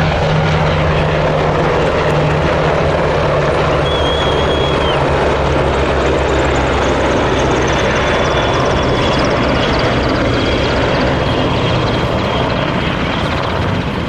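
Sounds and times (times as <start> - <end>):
military jet aircraft passing: 0.0 - 14.0.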